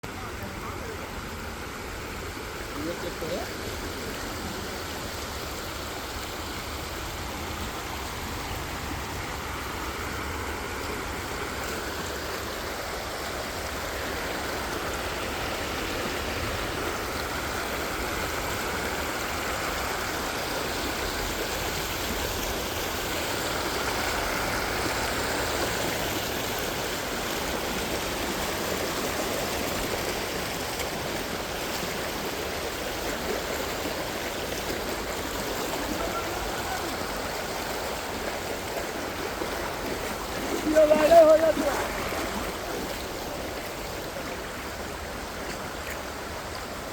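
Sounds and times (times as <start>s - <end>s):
floodwater rushing: 0.0s - 46.9s.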